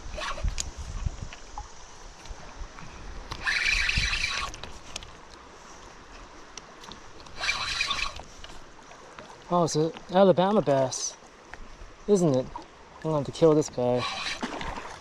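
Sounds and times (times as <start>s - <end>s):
water splashing beside kayak: 0.0s - 15.0s.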